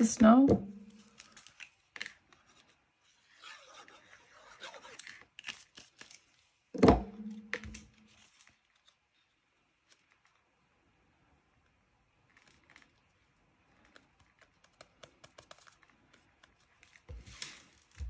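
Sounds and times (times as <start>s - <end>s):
glue spreading rustle: 0.9s - 6.7s, 7.9s - 10.7s, 11.5s - 18.0s.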